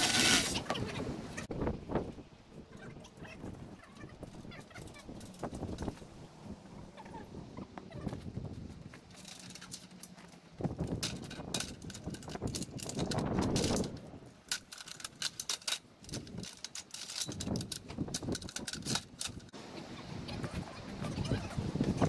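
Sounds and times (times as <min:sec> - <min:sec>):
rustling noise: 0:00.0 - 0:19.6.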